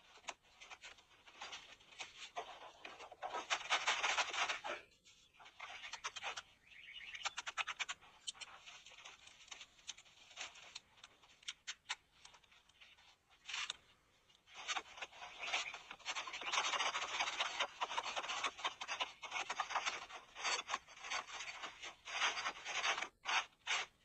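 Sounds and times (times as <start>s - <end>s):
scratching and rustling: 0.0s - 24.0s.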